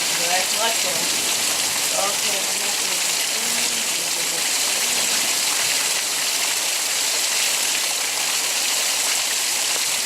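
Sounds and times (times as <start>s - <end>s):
heavy rain falling: 0.0s - 10.0s
water pouring from gutter: 0.0s - 10.0s.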